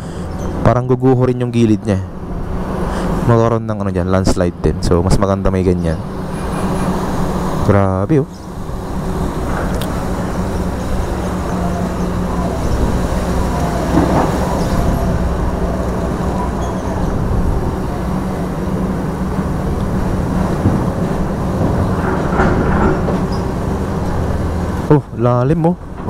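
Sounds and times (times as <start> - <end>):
heavy engine running: 0.0 - 26.0.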